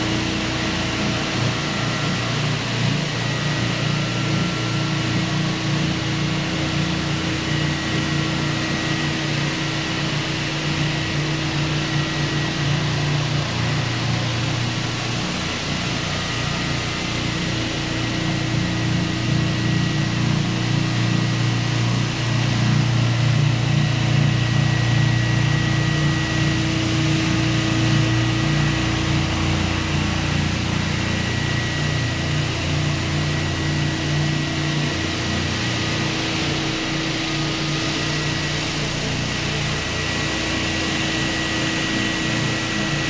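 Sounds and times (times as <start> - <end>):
floor sander running on wood: 0.0 - 43.0.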